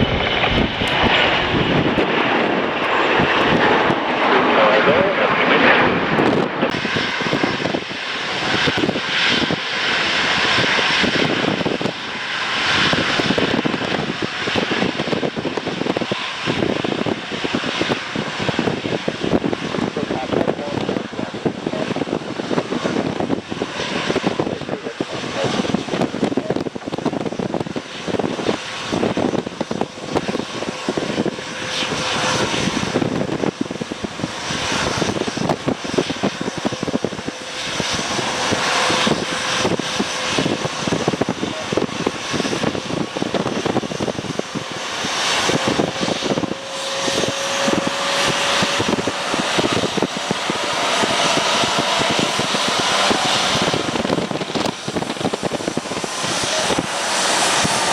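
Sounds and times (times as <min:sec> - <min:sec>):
aircraft engines: 0:00.0 - 0:57.9
wind buffeting microphone: 0:00.0 - 0:57.9.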